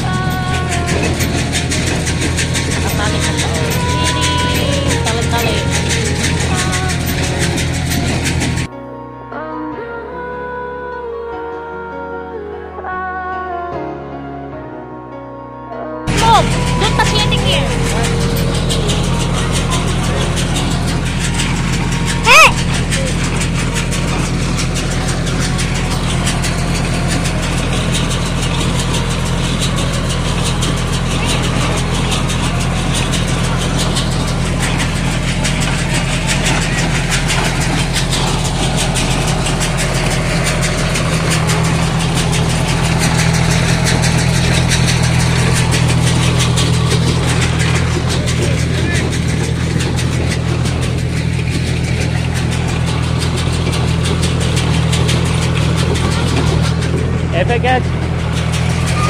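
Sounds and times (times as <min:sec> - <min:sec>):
tractor engine idling: 0:00.0 - 0:08.7, 0:16.1 - 0:59.0.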